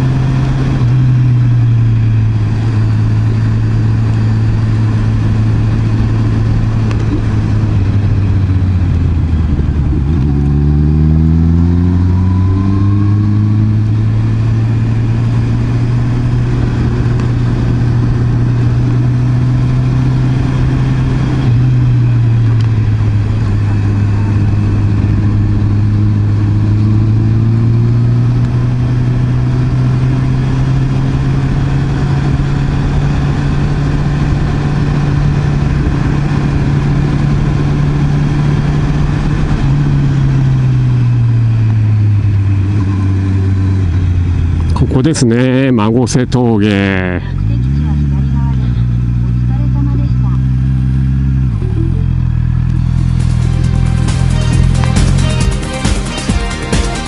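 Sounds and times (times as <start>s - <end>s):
wind and road noise: 0.0s - 56.5s
motorcycle engine revving: 0.0s - 57.0s.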